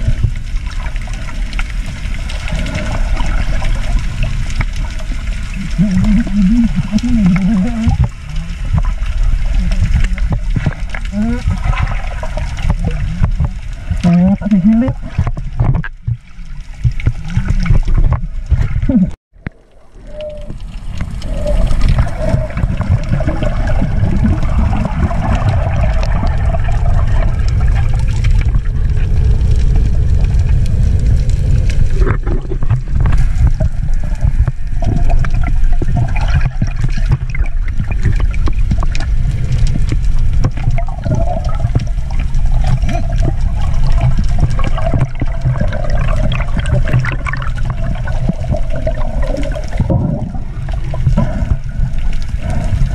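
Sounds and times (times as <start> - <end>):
bubbly gurgles: 0.0 - 52.9
muffled underwater rush of water: 0.0 - 52.9.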